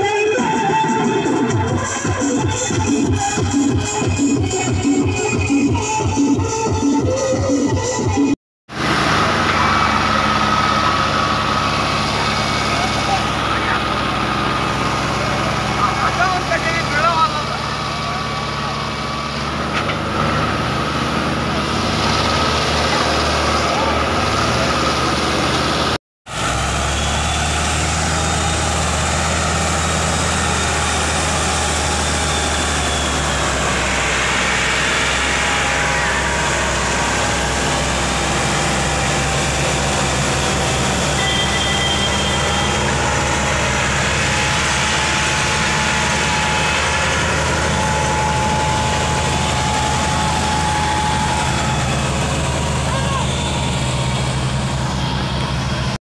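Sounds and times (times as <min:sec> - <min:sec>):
tractor engines droning: 0:00.0 - 0:56.0.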